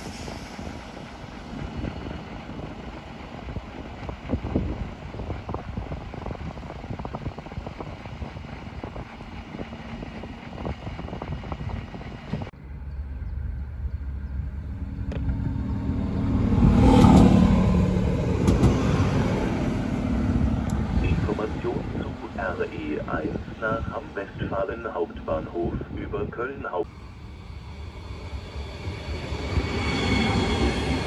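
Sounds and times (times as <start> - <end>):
wind buffeting microphone: 0.0 - 26.6
diesel railcar engine drone: 0.0 - 31.0
train rumble: 0.0 - 31.0.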